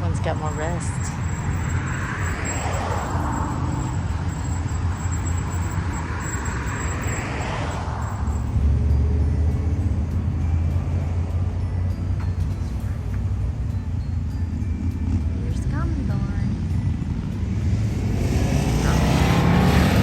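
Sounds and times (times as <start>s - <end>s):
deep engine rumble: 0.0s - 20.0s
vehicles going by: 0.0s - 20.0s.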